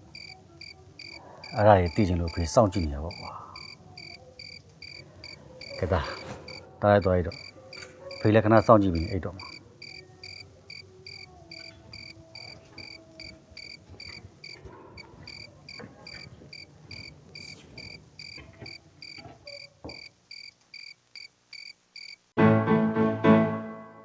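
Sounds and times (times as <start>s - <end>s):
cricket chirping: 0.0s - 8.4s, 9.0s - 22.3s.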